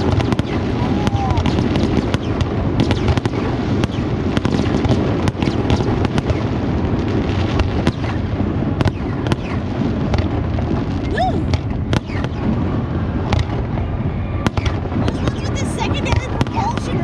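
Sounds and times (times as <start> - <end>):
fireworks cracking and popping: 0.0 - 17.0.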